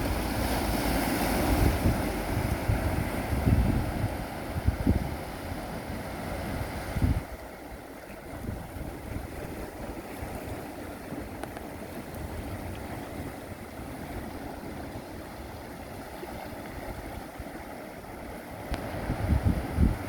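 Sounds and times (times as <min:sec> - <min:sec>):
sea waves breaking on shore: 0:00.0 - 0:20.0
wind buffeting microphone: 0:00.0 - 0:20.0.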